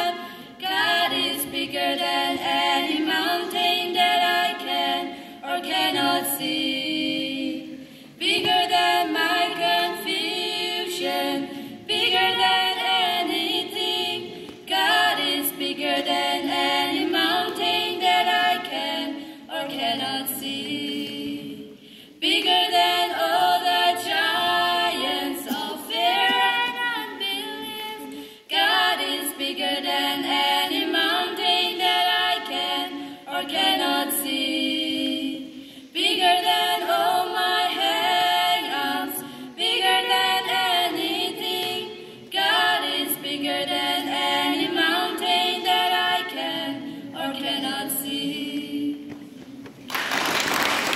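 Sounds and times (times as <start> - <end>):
girls singing a duet: 0.0 - 49.8.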